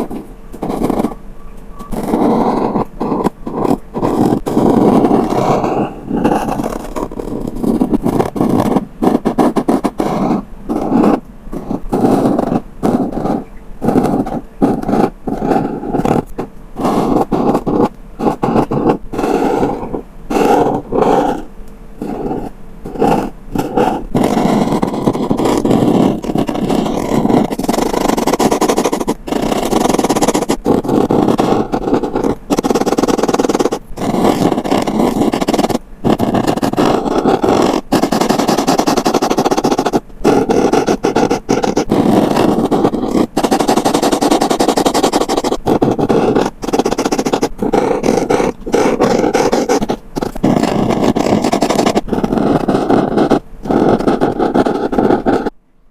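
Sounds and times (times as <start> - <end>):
marker pen scratching on paper: 0.0 - 1.2, 1.8 - 55.6.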